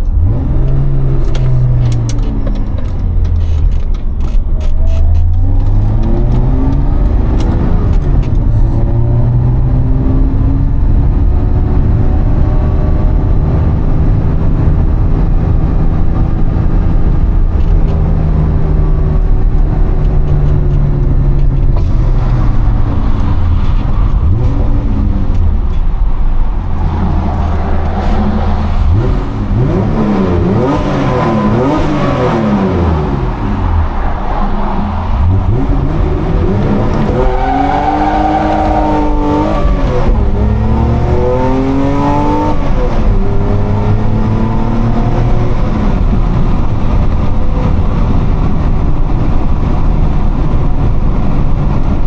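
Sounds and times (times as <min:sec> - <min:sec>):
car engine driving under load: 0:00.0 - 0:52.0.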